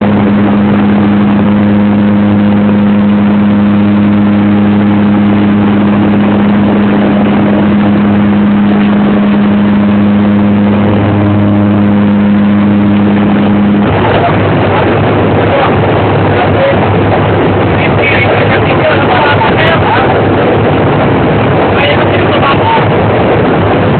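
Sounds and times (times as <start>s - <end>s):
engine drone: 0.0s - 23.9s
rushing noise: 0.0s - 23.9s.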